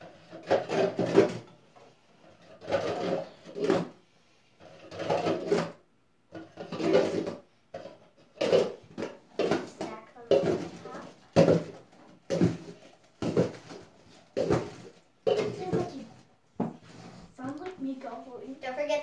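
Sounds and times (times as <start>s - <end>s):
plastic cups clattering on wood floor: 0.0s - 4.0s, 4.6s - 17.8s.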